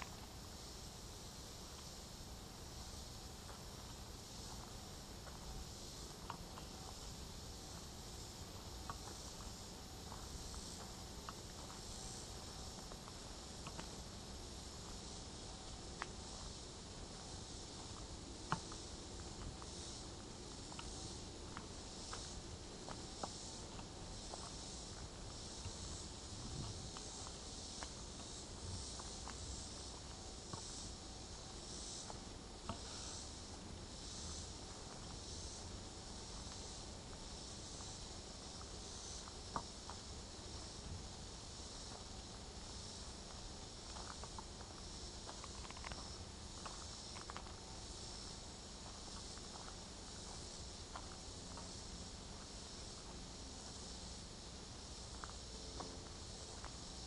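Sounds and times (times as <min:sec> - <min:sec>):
chorus of insects: 0:00.0 - 0:57.0.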